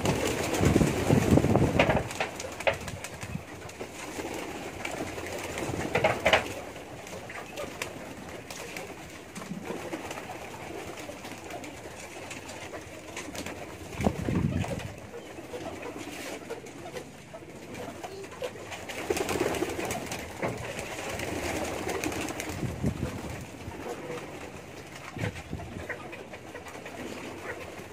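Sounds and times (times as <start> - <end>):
pigeons cooing: 0.0 - 27.9.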